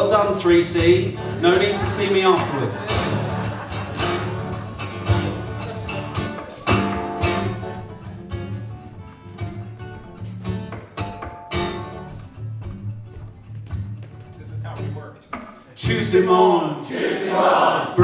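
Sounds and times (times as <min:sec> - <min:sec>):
acoustic guitar strumming: 0:00.0 - 0:16.6.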